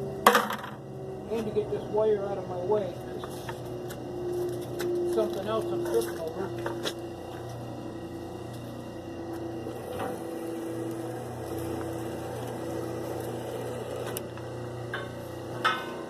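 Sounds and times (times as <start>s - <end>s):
small electric motor humming: 0.0s - 16.0s.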